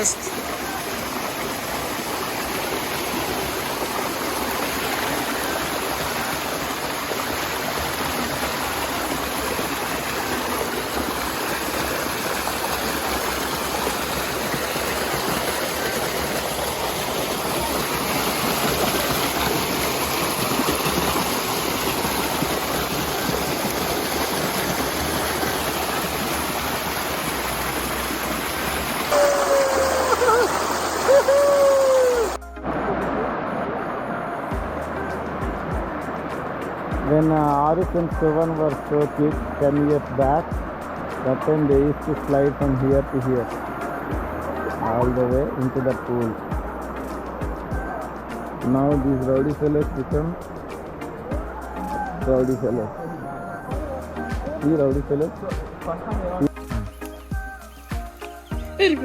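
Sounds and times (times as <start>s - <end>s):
creek water spilling over falls: 0.0s - 59.0s.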